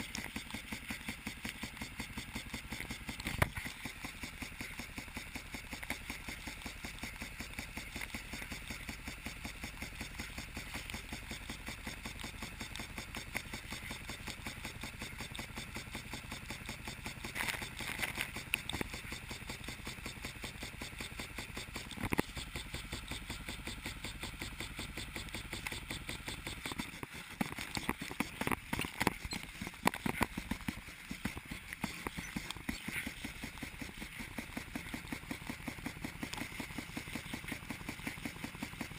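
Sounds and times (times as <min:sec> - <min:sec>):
lawn sprinkler pulsing spray: 0:00.0 - 0:38.9.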